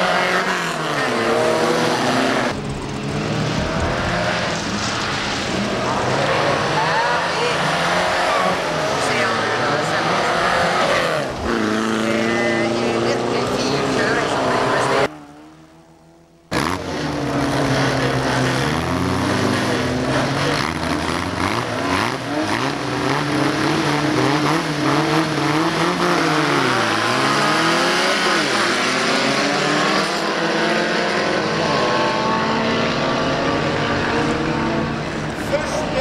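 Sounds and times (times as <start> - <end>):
car engines revving hard: 0.0 - 36.0.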